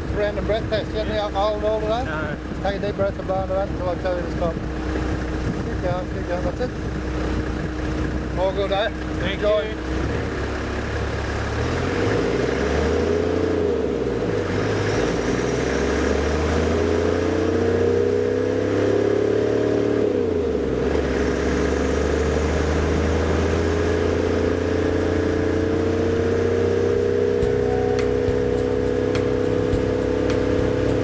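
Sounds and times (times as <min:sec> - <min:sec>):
road noise: 0:00.0 - 0:31.0
vehicle engine driving: 0:00.0 - 0:31.0
wind: 0:00.0 - 0:31.0.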